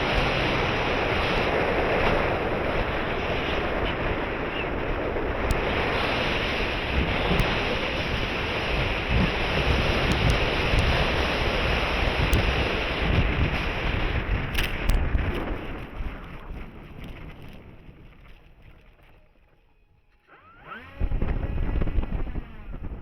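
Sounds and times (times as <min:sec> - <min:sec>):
wind buffeting microphone: 0:00.0 - 0:19.6, 0:20.7 - 0:23.0.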